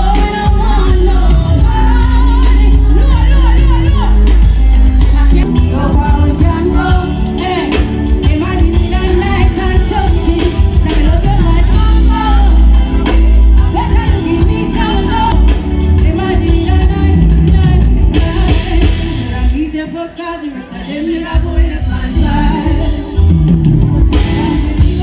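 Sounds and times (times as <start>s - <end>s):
heavy bass-driven backing track: 0.0s - 25.0s
person singing: 0.0s - 25.0s.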